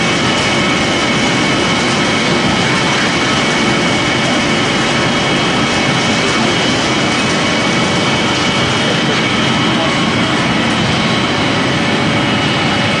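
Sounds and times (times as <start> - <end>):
pellet mill mechanical rush: 0.0 - 13.0.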